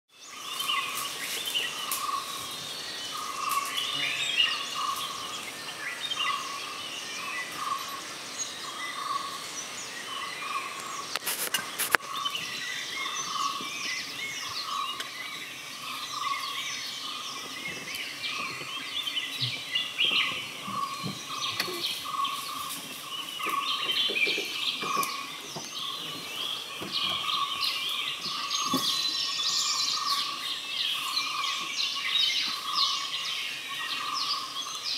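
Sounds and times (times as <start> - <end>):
birds calling and chirping: 0.1 - 34.9.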